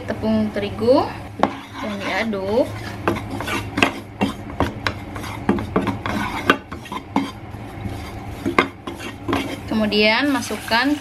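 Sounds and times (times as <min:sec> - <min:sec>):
utensil scraping a frying pan: 0:01.4 - 0:11.0.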